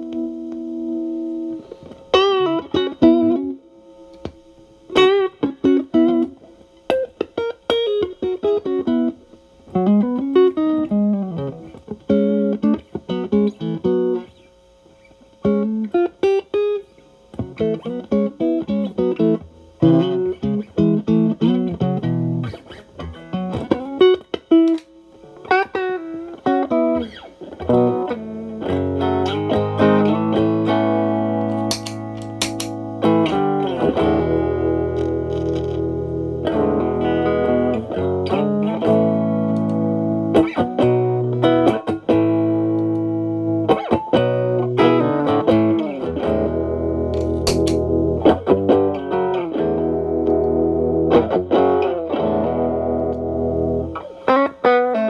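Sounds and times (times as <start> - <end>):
overdriven electric guitar licks: 0.0 - 55.0.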